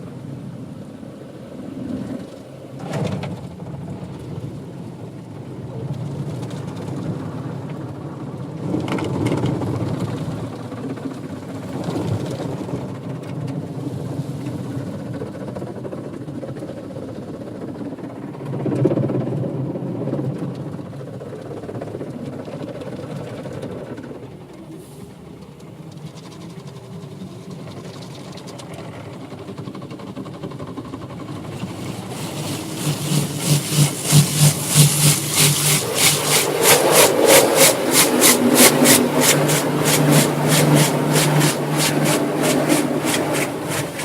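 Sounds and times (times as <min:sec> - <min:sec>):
car wash water and machinery: 0:00.0 - 0:44.0.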